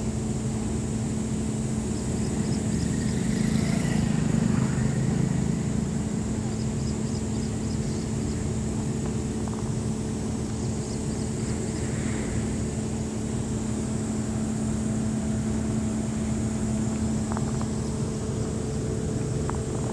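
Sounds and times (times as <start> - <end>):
motor droning: 0.0 - 19.9.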